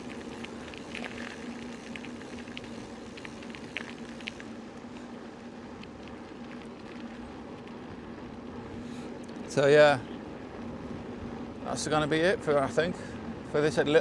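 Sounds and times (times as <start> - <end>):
bicycle tyres rolling: 0.0 - 14.0
faint steady hum: 0.0 - 14.0
small irregular ticks and crackles: 0.0 - 14.0.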